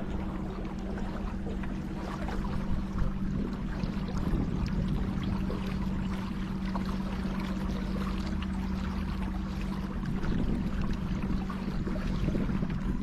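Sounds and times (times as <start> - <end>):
water splashing against hull: 0.0 - 13.0.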